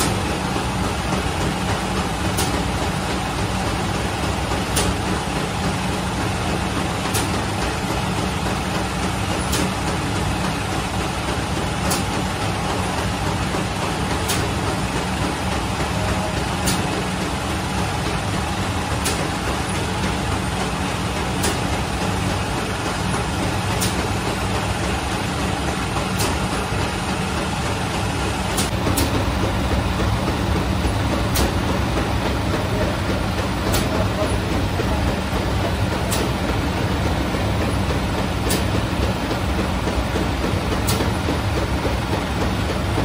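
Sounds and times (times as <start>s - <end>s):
oven machine humming: 0.0s - 43.0s.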